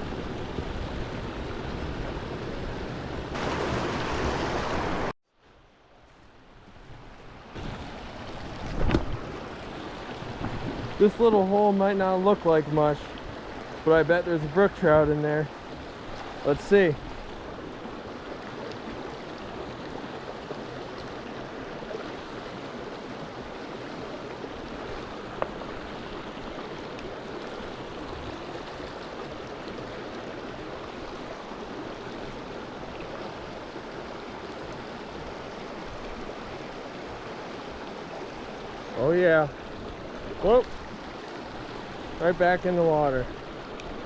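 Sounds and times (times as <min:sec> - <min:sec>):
stream babbling: 0:00.0 - 0:44.0.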